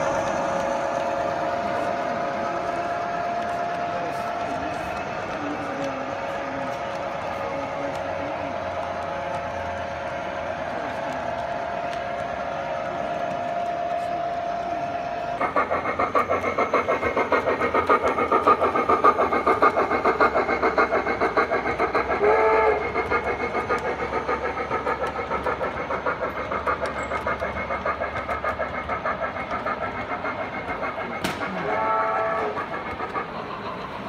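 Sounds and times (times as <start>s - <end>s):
model train rhythmic pulsing: 0.0s - 34.0s.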